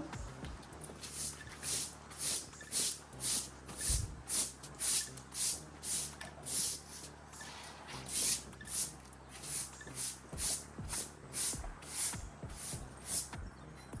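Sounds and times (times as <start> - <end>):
scratchy sweeping strokes: 1.0 - 13.4.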